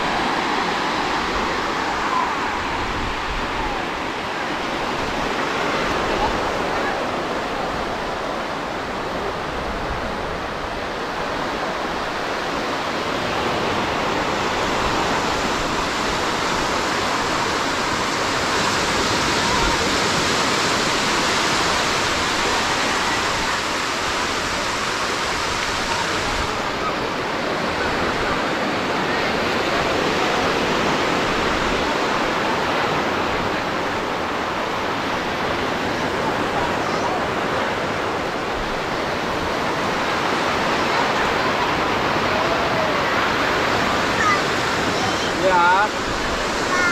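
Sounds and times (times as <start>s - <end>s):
ocean waves breaking: 0.0s - 46.9s.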